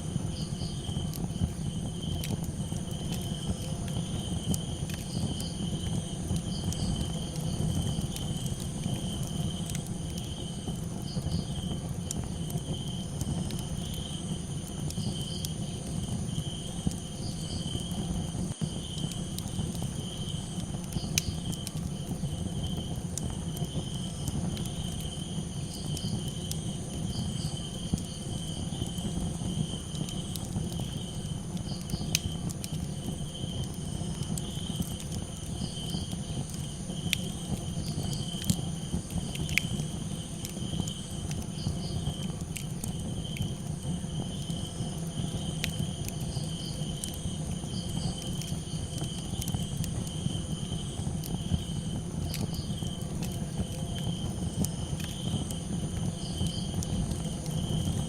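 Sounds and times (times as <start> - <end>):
crackling campfire: 0.0 - 58.0
crickets chirping: 0.0 - 58.0
fire pops: 0.0 - 58.0.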